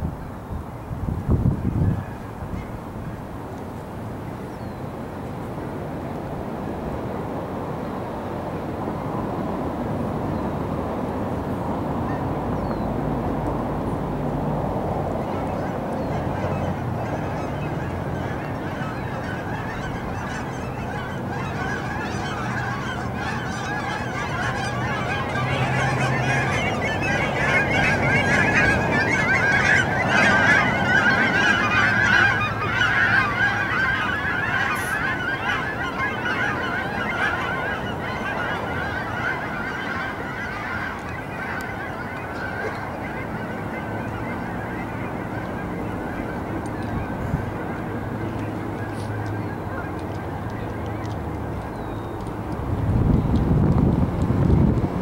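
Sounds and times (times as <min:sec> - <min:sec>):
flock of birds calling: 0:01.4 - 0:55.0.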